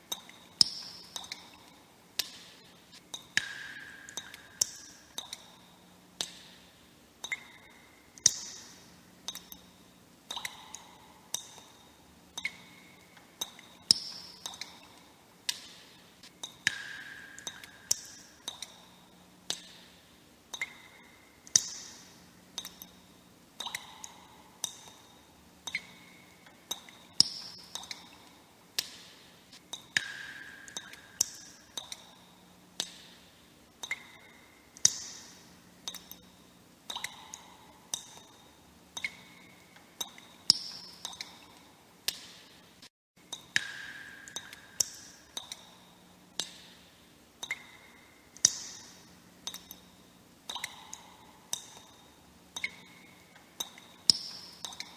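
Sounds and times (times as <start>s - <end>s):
water droplets plinking: 0.1s - 2.4s, 3.1s - 6.5s, 7.2s - 9.7s, 10.3s - 15.8s, 16.4s - 19.8s, 20.5s - 23.0s, 23.6s - 29.0s, 29.7s - 33.2s, 33.8s - 36.3s, 36.9s - 42.4s, 43.3s - 46.7s, 47.4s - 49.8s, 50.5s - 54.9s.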